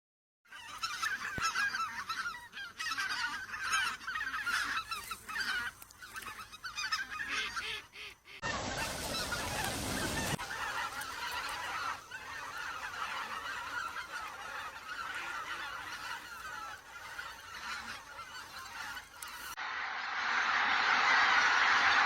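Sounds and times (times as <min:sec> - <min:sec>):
geese honking: 0:00.5 - 0:19.6.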